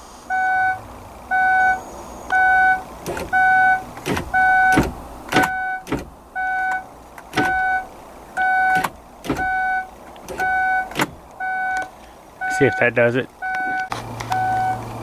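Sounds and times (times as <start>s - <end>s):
car warning chime beeping: 0.3s - 14.8s.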